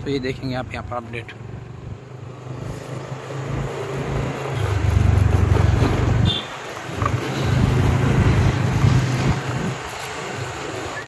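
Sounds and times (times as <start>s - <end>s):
motorcycle engine running: 0.6s - 9.8s.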